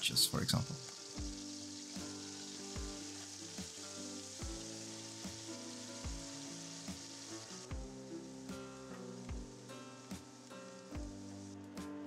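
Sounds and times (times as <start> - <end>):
beef sizzling in hot oil: 0.0 - 11.6
background music: 0.0 - 12.0.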